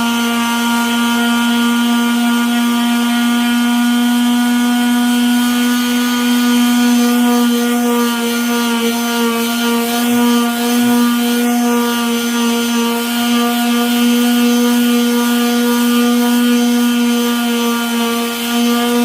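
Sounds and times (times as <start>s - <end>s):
electric sander motor hum: 0.0s - 19.0s
sandpaper scratching epoxy: 0.0s - 19.0s.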